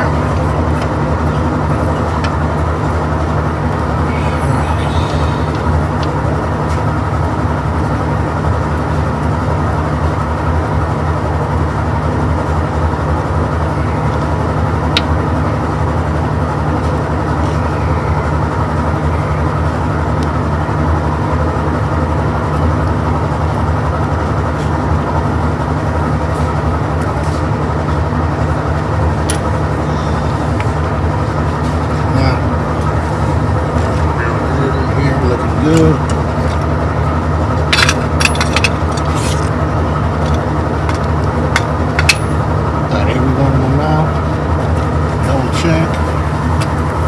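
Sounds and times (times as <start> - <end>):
mechanical drone with low hum: 0.0 - 47.0.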